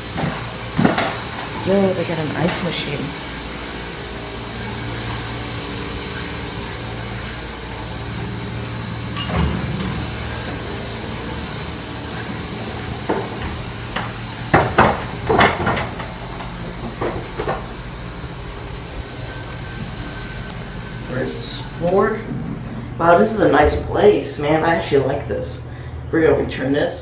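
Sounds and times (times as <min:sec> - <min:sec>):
ice machine humming: 0:00.0 - 0:27.0.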